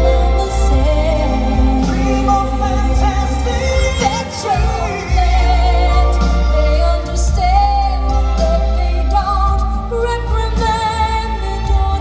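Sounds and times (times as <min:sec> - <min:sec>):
low music backing: 0:00.0 - 0:12.0.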